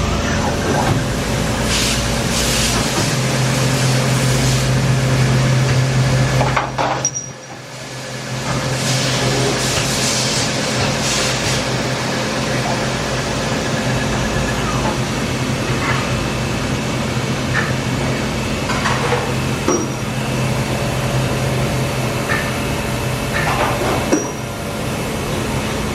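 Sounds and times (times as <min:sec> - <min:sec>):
machinery hum: 0:00.0 - 0:25.9.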